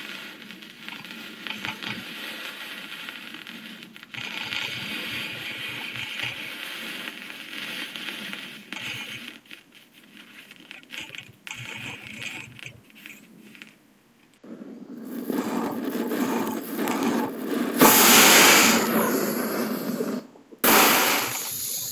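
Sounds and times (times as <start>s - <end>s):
rocket fuel burning with hiss: 0.0s - 21.9s.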